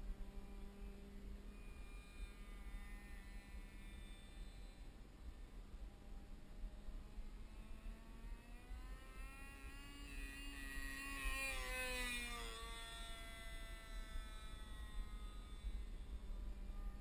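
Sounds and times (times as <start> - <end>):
model plane engine buzzing: 0.0 - 17.0.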